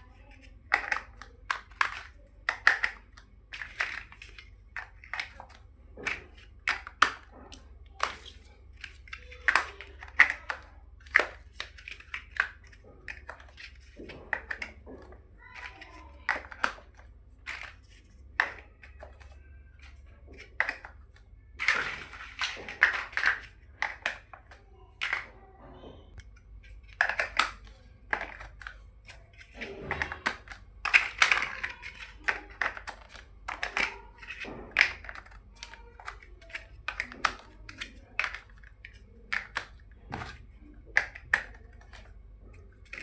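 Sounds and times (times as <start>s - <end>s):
plastic blocks clicking together: 0.0s - 25.4s, 26.1s - 43.0s.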